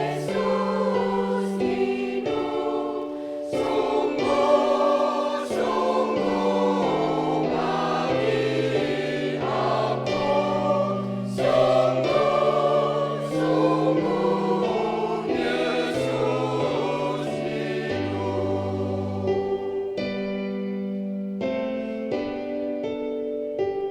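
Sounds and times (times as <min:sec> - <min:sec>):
church choir singing in harmony: 0:00.0 - 0:23.2.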